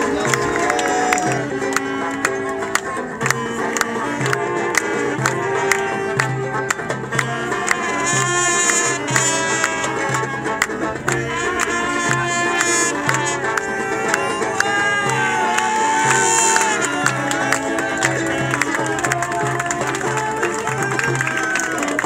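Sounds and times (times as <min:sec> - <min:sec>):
upbeat music with percussive beat: 0:00.0 - 0:22.0.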